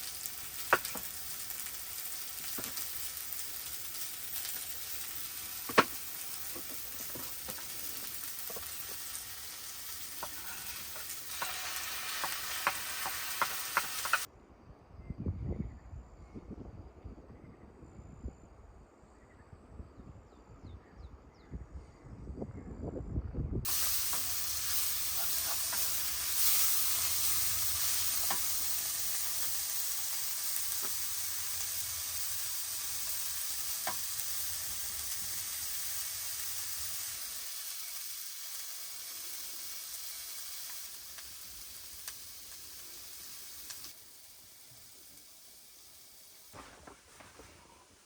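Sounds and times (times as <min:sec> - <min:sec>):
sizzling hiss with small pops: 0:00.0 - 0:14.3, 0:23.7 - 0:48.0.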